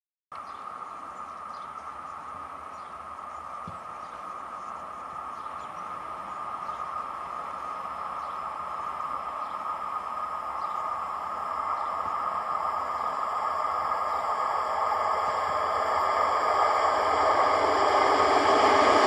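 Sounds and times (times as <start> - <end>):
train wheels on rails: 0.4 - 19.0.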